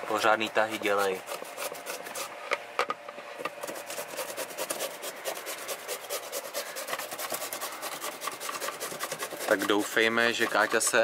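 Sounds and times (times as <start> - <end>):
potato grated on metal grater: 0.1 - 2.3, 3.6 - 11.0.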